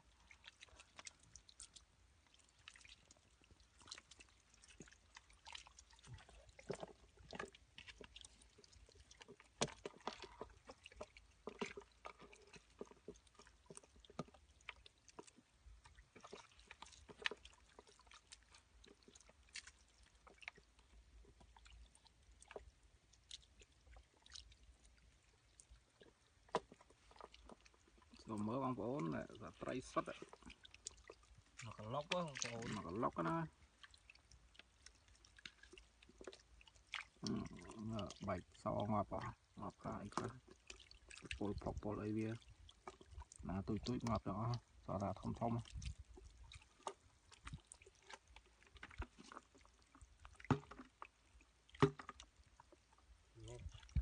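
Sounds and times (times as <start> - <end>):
hands squelching through wet mud: 0.0 - 52.9.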